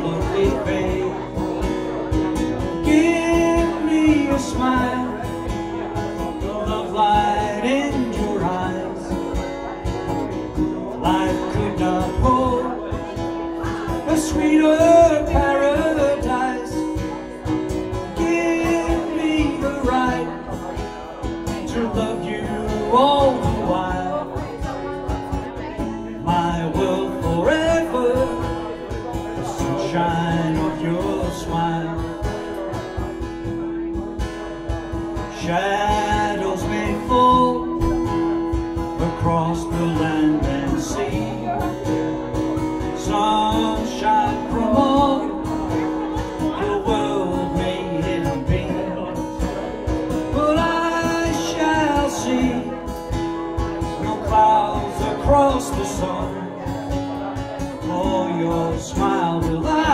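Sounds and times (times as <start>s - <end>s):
man singing wordless melody: 0.0s - 34.0s, 35.0s - 59.9s
strummed acoustic guitar: 0.0s - 59.9s.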